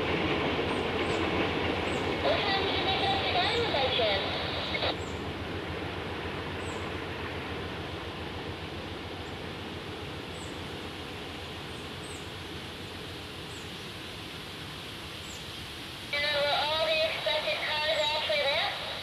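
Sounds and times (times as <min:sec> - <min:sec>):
distant train rumbling by: 0:00.0 - 0:19.0.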